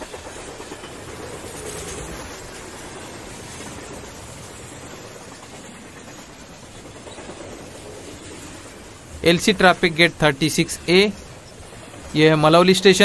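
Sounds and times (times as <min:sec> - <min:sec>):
train running hiss and rumble: 0:00.0 - 0:13.0.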